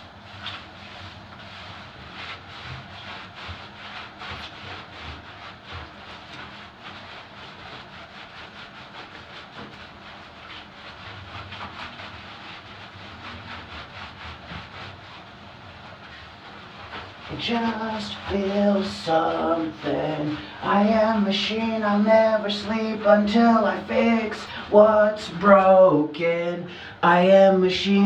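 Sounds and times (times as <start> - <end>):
wet dog coat scrubbed by hand: 0.0 - 28.0.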